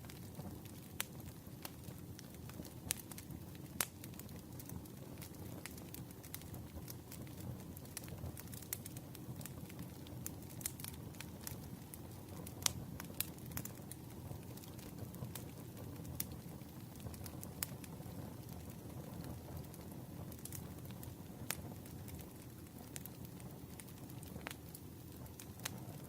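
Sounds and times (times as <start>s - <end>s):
campfire crackling: 0.0s - 26.0s
burning wood popping: 0.1s - 26.0s.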